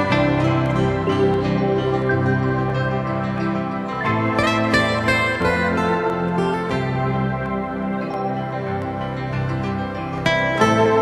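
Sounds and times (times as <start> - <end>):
calm instrumental music: 0.0 - 11.0.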